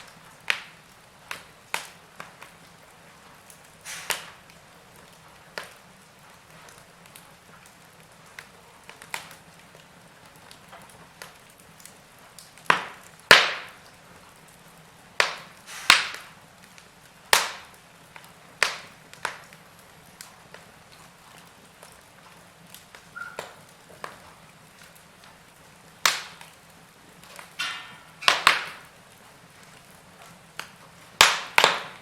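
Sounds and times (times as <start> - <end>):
logs crackling and popping: 0.0 - 32.0.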